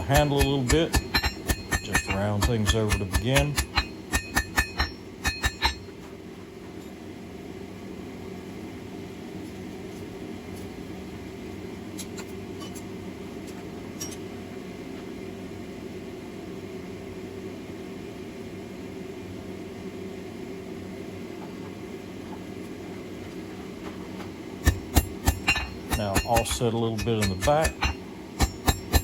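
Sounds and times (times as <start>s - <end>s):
forge humming: 0.0s - 29.0s.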